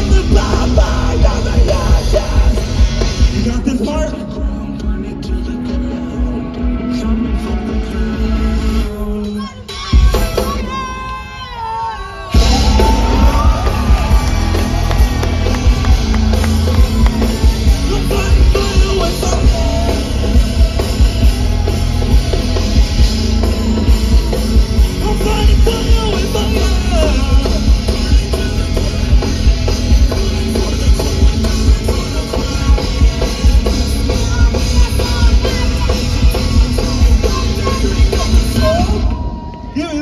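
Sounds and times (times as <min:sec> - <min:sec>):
live rock band playing: 0:00.0 - 0:39.5.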